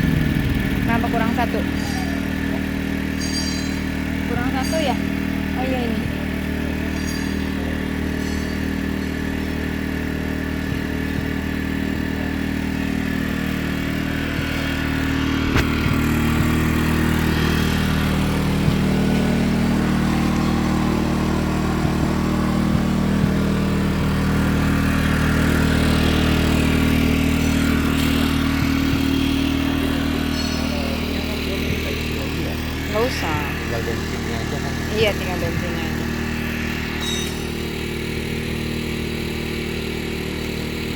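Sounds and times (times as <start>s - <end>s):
generator engine running: 0.0s - 40.9s.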